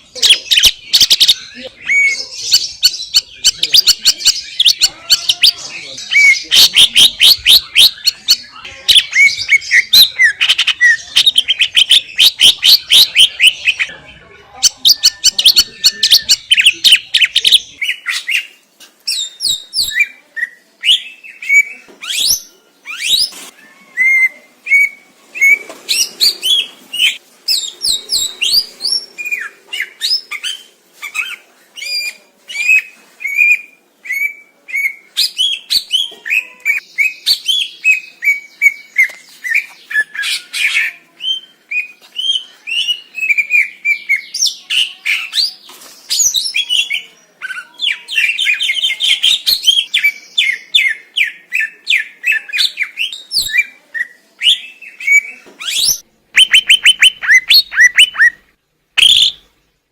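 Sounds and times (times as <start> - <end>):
bird singing varied song: 0.0 - 59.9.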